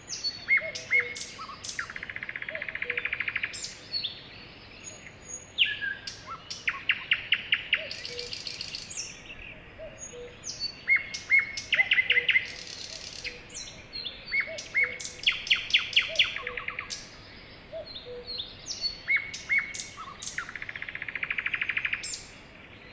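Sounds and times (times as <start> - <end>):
birds singing: 0.0 - 22.9.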